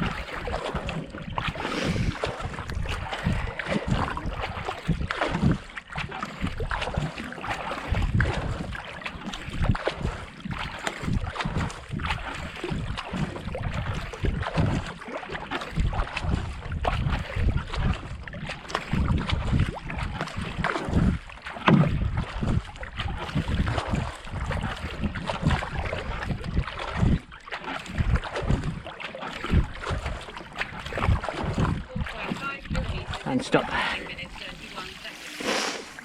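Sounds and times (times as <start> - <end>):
wind buffeting microphone: 0.0 - 14.9, 15.7 - 27.3, 27.9 - 36.0
paddle splashing water: 0.0 - 36.0.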